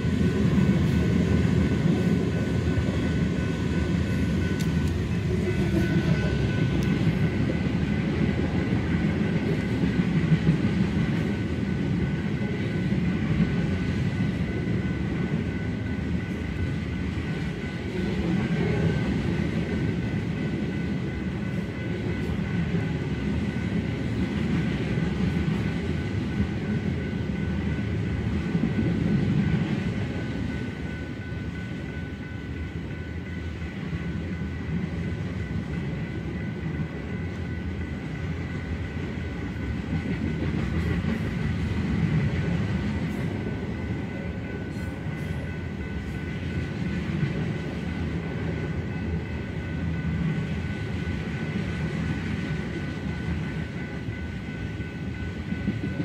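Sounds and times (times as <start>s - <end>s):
high-pitched ringing tone: 0.0s - 56.0s
train wheels rumbling on rail: 0.0s - 56.0s.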